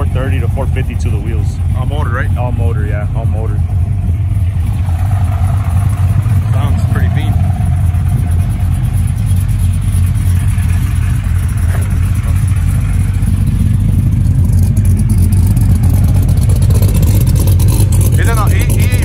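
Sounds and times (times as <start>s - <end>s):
truck engine deep rumble: 0.0s - 19.0s.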